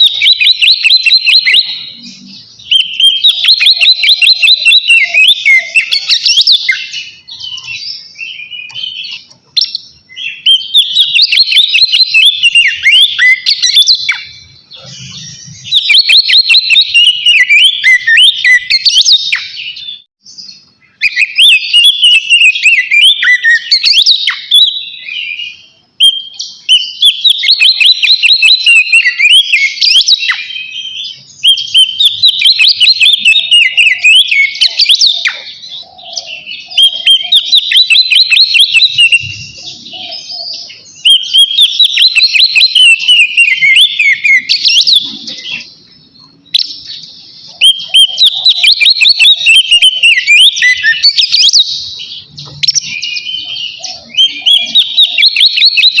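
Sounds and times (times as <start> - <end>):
bird singing whistled phrases: 0.0 - 56.0.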